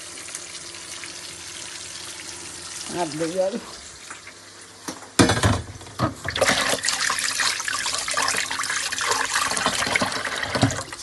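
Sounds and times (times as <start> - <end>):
water running from a tap: 0.0 - 4.9, 5.5 - 11.0.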